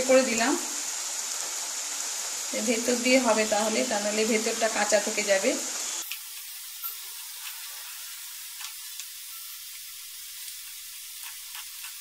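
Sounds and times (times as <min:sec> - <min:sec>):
dough sizzling in hot oil: 0:00.0 - 0:12.0.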